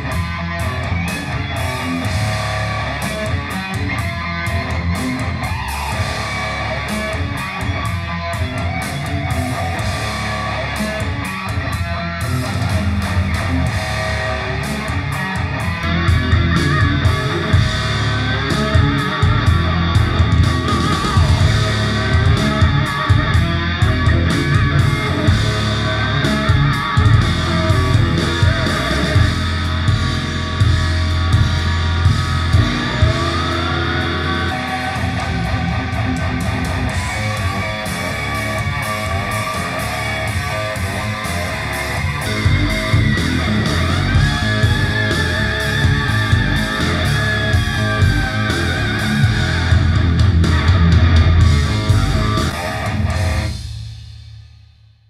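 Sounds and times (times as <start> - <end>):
rock music through speakers: 0.0 - 54.7.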